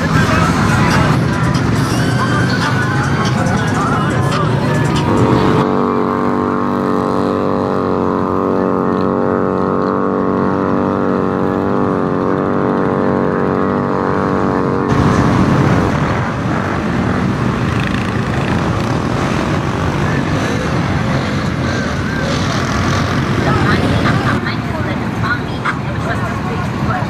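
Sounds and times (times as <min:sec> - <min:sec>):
engine at high revs: 0:00.0 - 0:27.0
vehicle churning through mud: 0:04.4 - 0:27.0.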